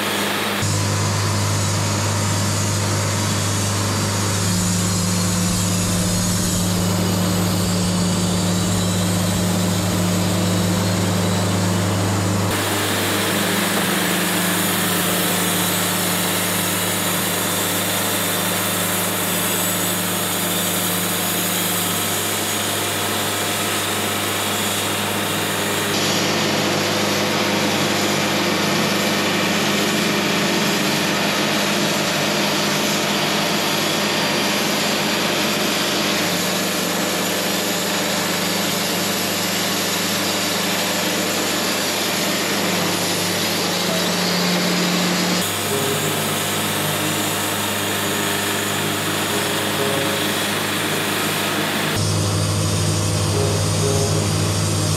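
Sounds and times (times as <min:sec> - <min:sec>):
bandsaw mill sawing wood: 0:00.0 - 0:54.9.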